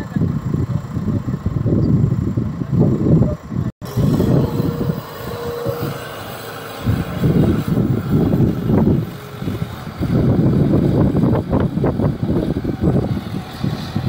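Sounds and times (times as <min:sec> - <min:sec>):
diesel engine rumbling under load: 0:00.0 - 0:14.0
wind on microphone: 0:00.0 - 0:14.0
thin steady whine: 0:01.7 - 0:14.0.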